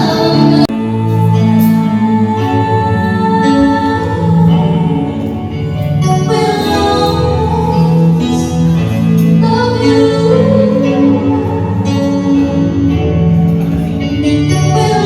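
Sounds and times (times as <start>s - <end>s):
instrumental accompaniment: 0.0s - 15.0s
person singing: 0.0s - 15.0s.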